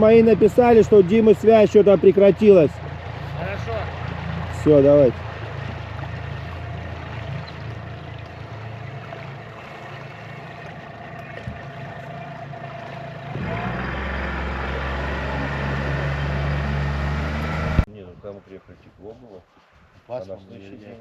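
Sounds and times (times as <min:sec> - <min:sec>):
motorboat engine running: 0:00.0 - 0:17.9.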